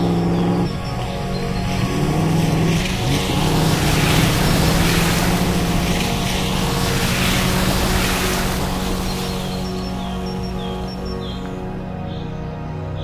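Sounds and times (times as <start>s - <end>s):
vehicle engine running: 0.0s - 10.9s
tyres splashing through water: 0.0s - 11.7s.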